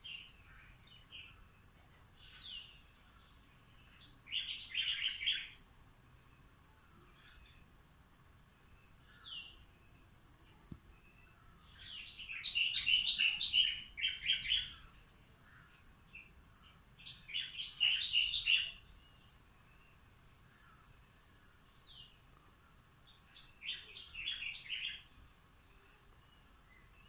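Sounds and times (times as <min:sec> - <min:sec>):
songbird chirping: 0:00.0 - 0:27.0.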